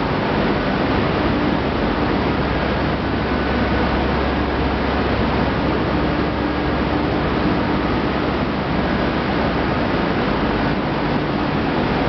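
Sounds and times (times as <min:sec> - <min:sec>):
factory machinery running: 0:00.0 - 0:12.0
low steady hum: 0:00.0 - 0:12.0.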